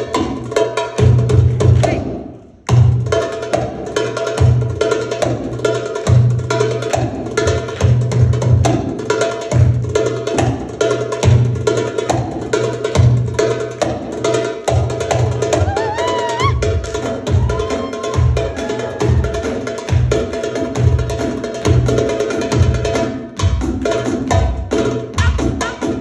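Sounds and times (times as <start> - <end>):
goblet drum played fast: 0.0 - 26.0.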